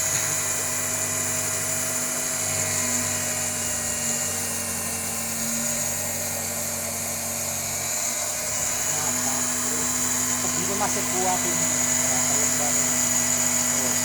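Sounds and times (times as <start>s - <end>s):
electric cloth cutter motor whine: 0.0s - 14.0s.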